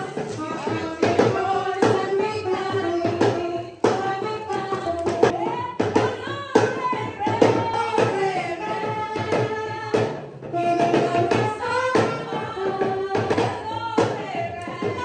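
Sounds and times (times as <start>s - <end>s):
percussive hits: 0.0s - 15.0s
song with singing voice: 0.0s - 15.0s.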